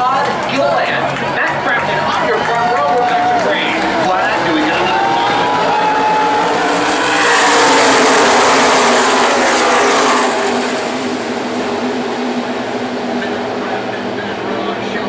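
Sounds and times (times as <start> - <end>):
race trucks passing: 0.0 - 15.0.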